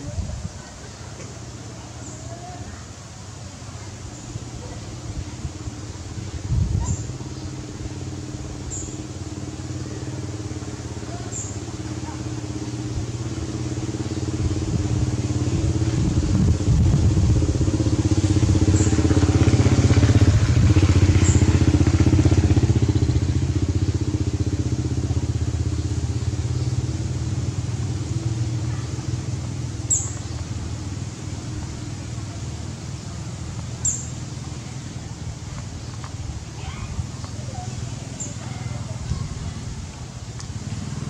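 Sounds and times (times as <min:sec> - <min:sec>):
passing vehicle engine: 0:00.9 - 0:41.0.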